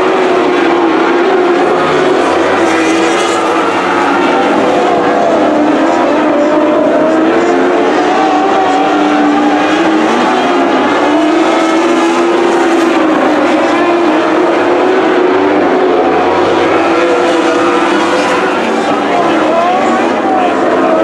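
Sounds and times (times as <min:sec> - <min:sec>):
high-revving racing engines: 0:00.0 - 0:21.0.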